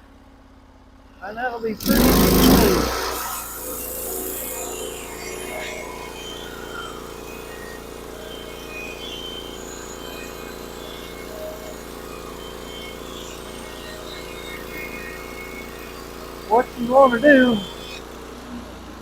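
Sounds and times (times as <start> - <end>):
sawmill engine running: 1.3 - 19.0.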